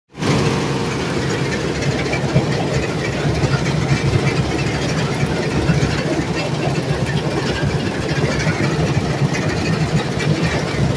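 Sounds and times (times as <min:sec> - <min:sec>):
diesel engine running: 0:00.1 - 0:10.9
machinery rattling: 0:00.2 - 0:10.9.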